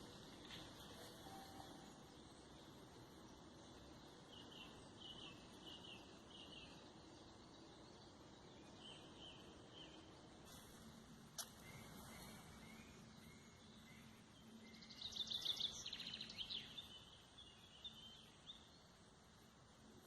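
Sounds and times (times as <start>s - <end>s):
bird chirping: 0.0s - 10.6s, 11.4s - 19.0s.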